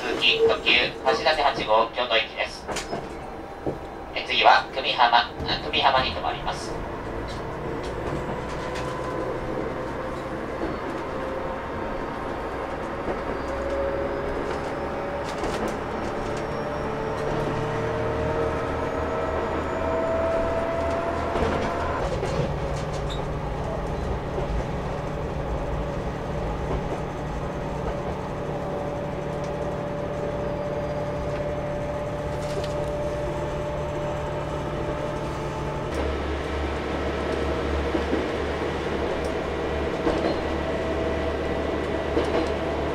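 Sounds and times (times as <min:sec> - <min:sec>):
diesel railcar engine drone: 0:00.0 - 0:42.9.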